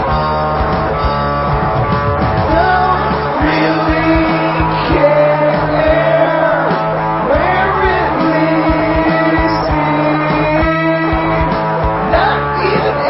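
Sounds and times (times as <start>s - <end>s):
rock guitar: 0.0s - 13.0s
steady drum beat: 0.0s - 13.0s.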